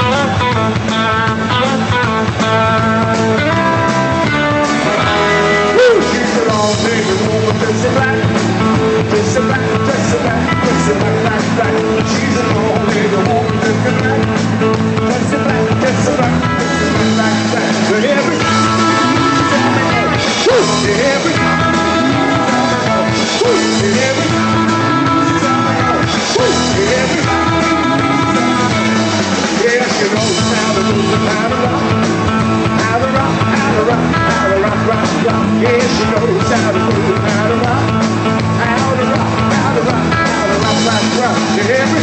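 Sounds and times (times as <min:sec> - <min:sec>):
rock band playing: 0:00.0 - 0:42.0.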